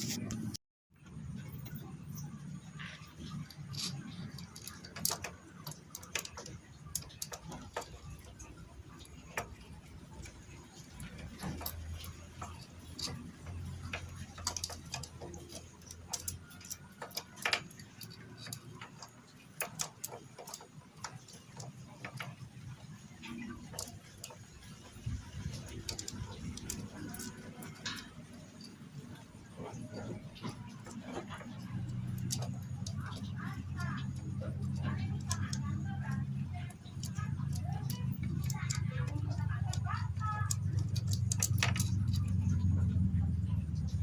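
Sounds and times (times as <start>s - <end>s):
low steady hum: 0.0s - 44.0s
metal tools clicking and tapping: 1.4s - 44.0s.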